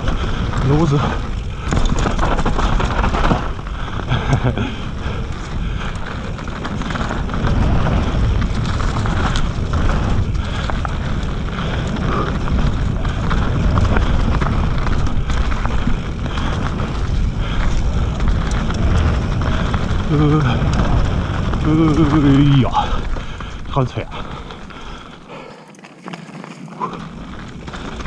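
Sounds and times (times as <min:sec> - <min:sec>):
wind rushing over microphone: 0:00.0 - 0:25.3
bike rattling clicks: 0:00.0 - 0:28.0
tyres rolling over dirt: 0:00.0 - 0:28.0.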